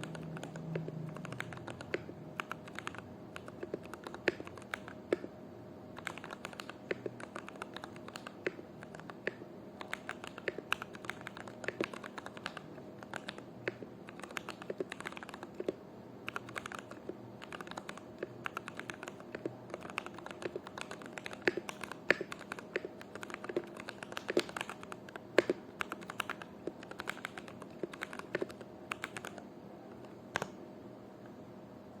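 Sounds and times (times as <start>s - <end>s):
mechanical keyboard typing: 0.0s - 5.3s, 6.0s - 29.4s.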